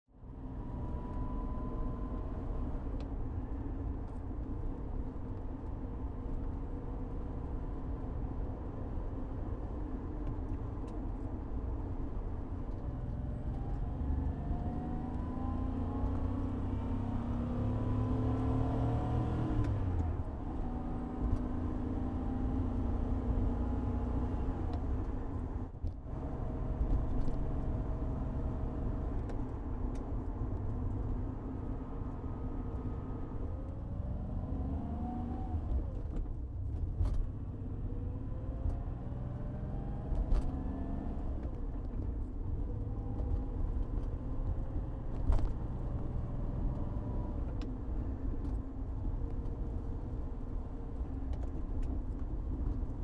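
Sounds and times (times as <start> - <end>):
car engine running in cabin: 0.2 - 53.0.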